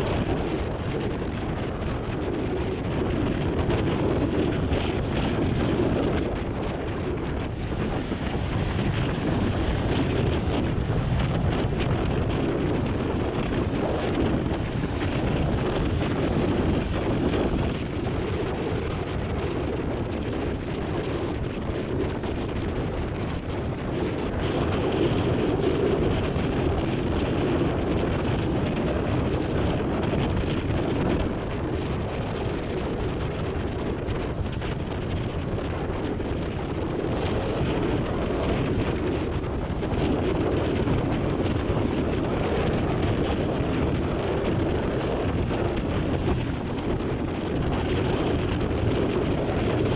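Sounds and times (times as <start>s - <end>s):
wind noise on microphone: 0.0s - 49.9s.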